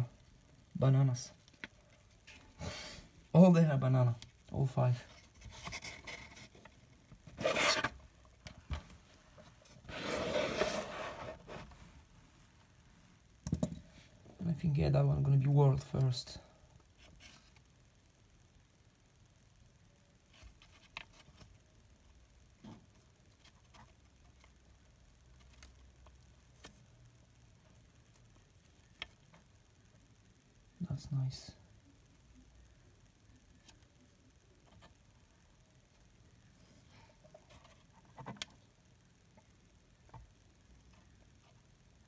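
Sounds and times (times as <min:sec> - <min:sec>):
low room hum: 0:00.0 - 0:42.0.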